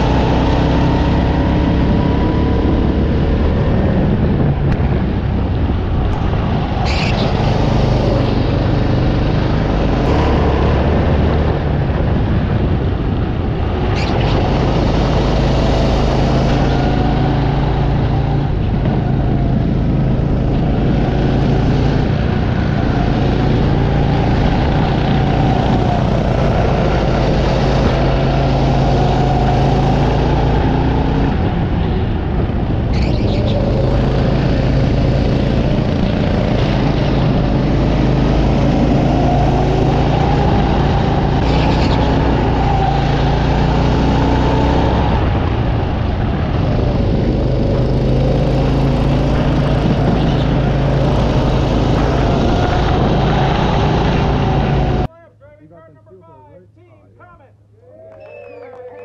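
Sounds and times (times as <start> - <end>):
go-kart engine droning: 0.0 - 55.1.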